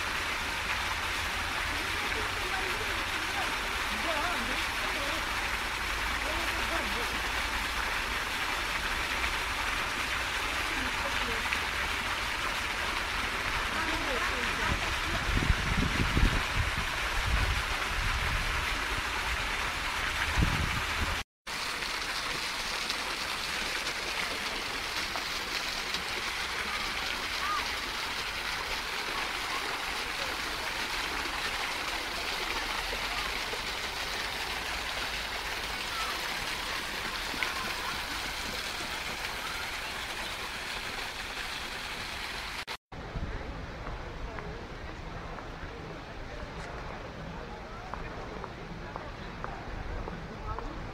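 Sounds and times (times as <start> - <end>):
waterfall splashing into pool: 0.0 - 42.8.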